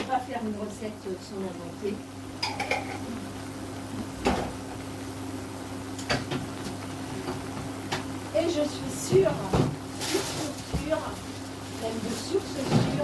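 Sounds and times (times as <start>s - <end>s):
induction hob humming: 0.0s - 13.0s.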